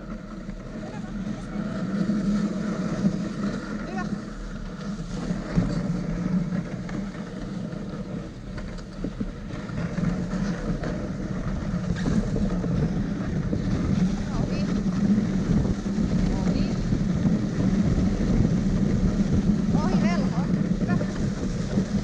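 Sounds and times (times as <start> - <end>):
sled rushing over snow: 0.0 - 22.0.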